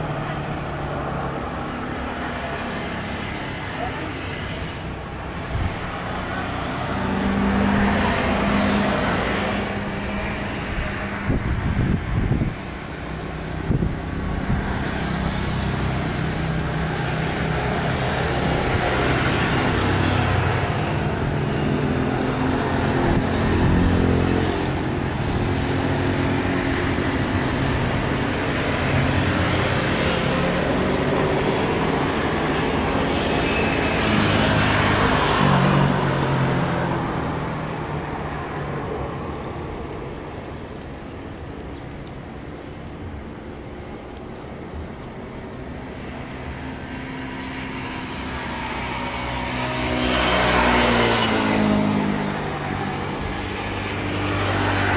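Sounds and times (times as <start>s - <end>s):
jet engines running loudly: 0.0s - 54.9s.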